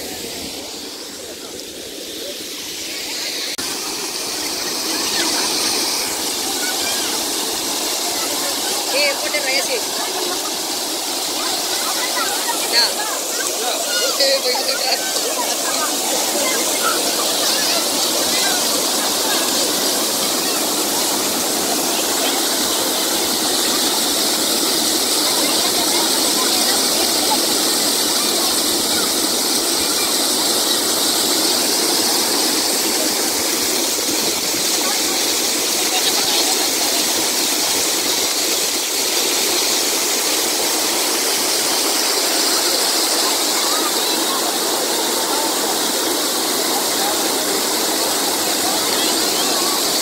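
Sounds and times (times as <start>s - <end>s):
water rushing over a weir: 0.0s - 50.0s.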